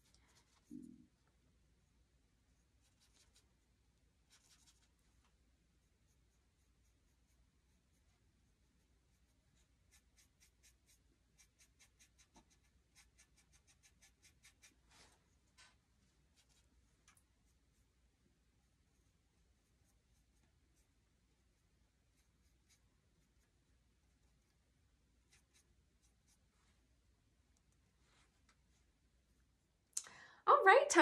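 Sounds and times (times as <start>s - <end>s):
paintbrush dabbing on board: 0.0s - 1.0s, 2.5s - 26.5s.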